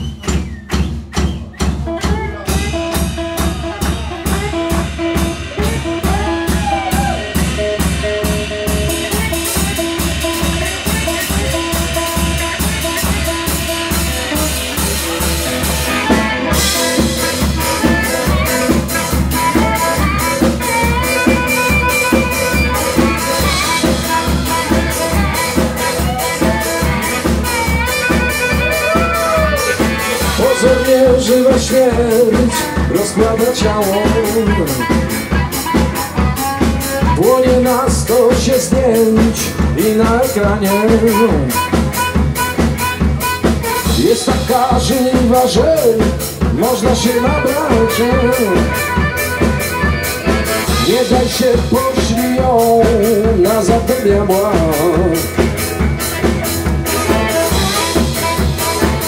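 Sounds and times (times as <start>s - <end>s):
drum kit steady beat: 0.0s - 59.0s
strummed electric guitar: 0.0s - 59.0s
harmonica wavering lines: 2.6s - 59.0s.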